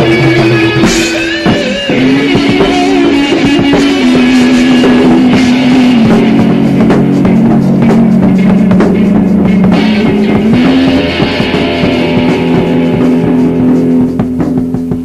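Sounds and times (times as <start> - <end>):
drum kit: 0.0 - 15.0
electric guitar bending notes: 0.0 - 15.0.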